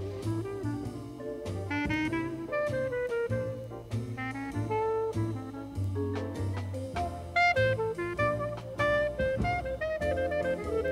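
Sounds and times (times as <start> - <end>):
instrumental jazz music: 0.0 - 10.9
saxophone melody: 0.0 - 10.9.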